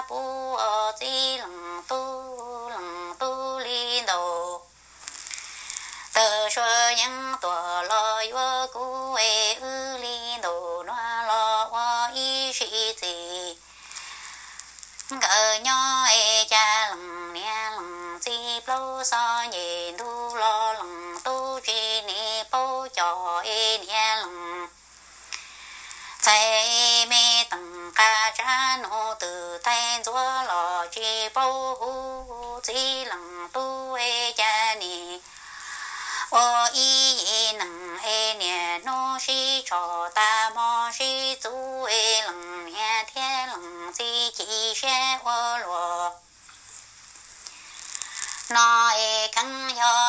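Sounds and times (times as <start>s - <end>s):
woman singing unaccompanied: 0.0s - 4.8s, 5.8s - 14.0s, 15.0s - 24.8s, 25.9s - 46.3s, 48.2s - 50.0s.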